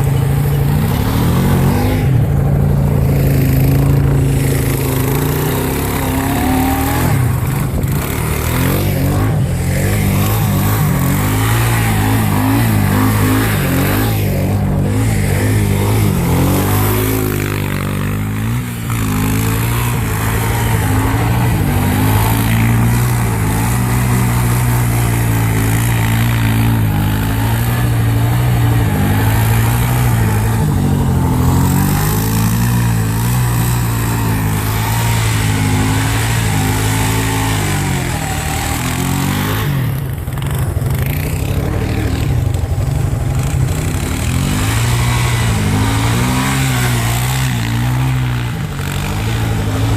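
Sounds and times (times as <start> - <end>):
small vehicle engine revving: 0.0 - 49.9.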